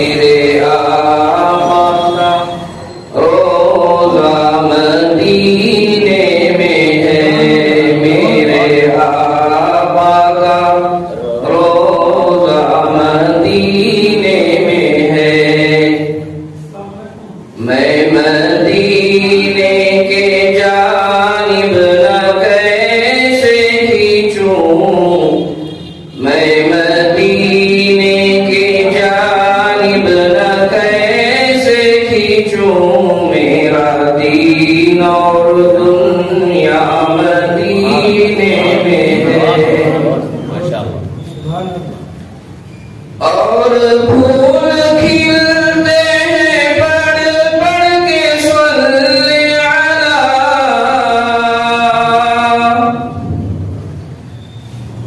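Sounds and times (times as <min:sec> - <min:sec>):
person singing unaccompanied: 0:00.0 - 0:40.4, 0:43.2 - 0:53.3.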